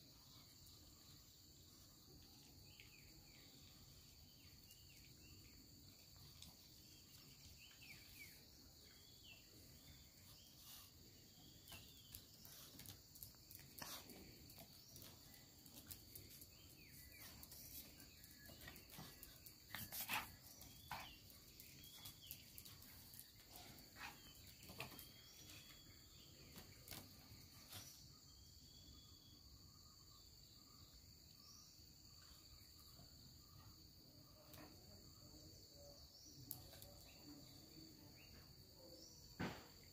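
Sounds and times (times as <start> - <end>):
faint chirps: 0.0 - 39.9
insects droning: 0.0 - 39.9.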